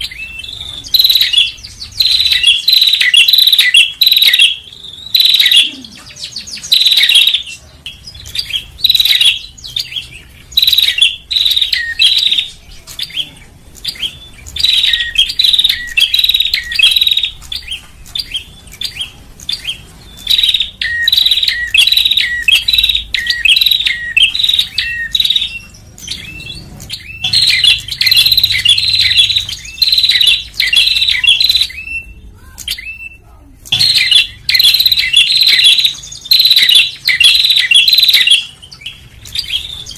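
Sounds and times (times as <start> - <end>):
bird rapid high chirping: 0.0 - 39.9.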